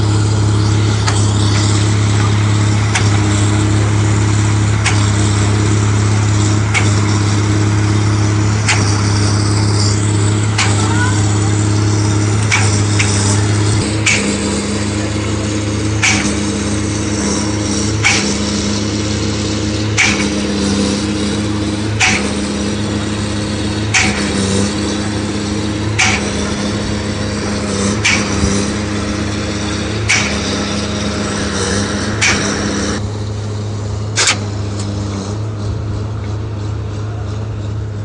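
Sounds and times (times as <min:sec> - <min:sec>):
engine drone: 0:00.0 - 0:38.0.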